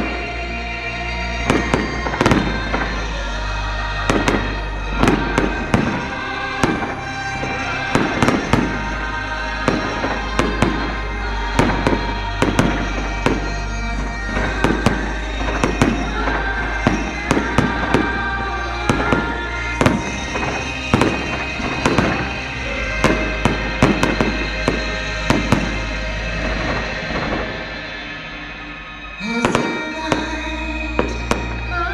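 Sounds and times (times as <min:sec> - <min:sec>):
music playing: 0:00.0 - 0:31.9
fireworks banging: 0:01.3 - 0:31.9.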